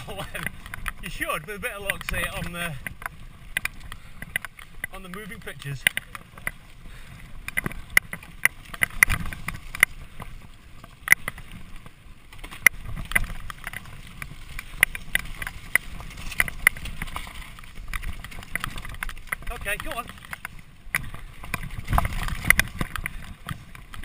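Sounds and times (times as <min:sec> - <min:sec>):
bike rattling over bumps: 0:00.0 - 0:24.0
tyres rumbling on dirt: 0:00.0 - 0:24.0.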